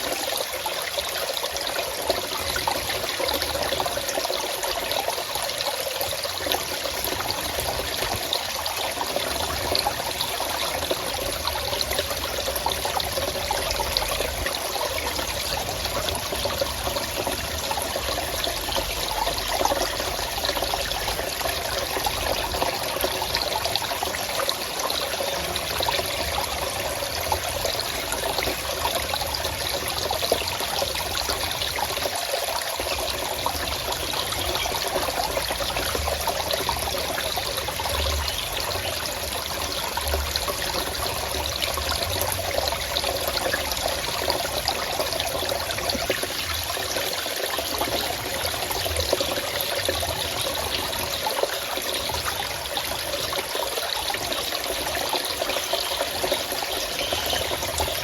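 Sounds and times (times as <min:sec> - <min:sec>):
stream flowing and trickling: 0:00.0 - 0:58.0.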